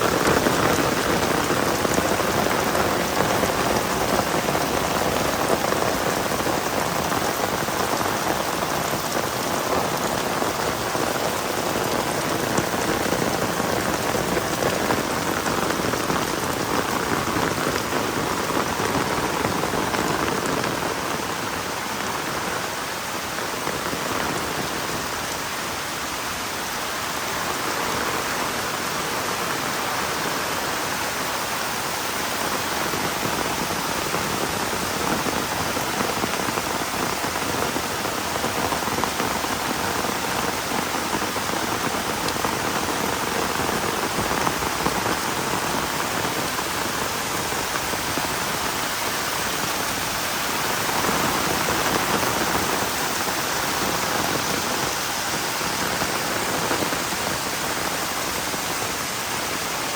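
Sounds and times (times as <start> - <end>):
heavy rain on the ground: 0.0 - 59.9.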